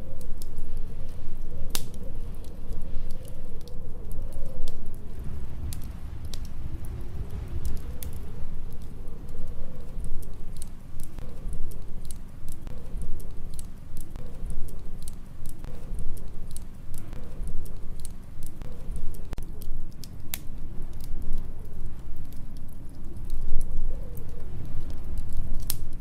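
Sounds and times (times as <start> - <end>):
low rumble of storm wind: 0.0 - 26.0
wood fire crackling and popping: 0.0 - 26.0.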